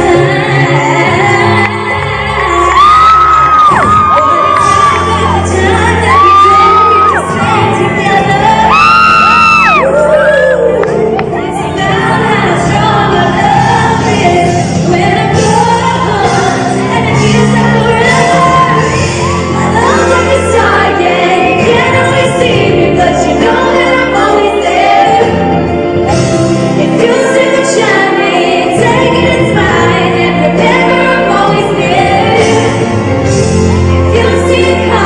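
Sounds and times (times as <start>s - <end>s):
woman singing over live band: 0.0s - 35.0s.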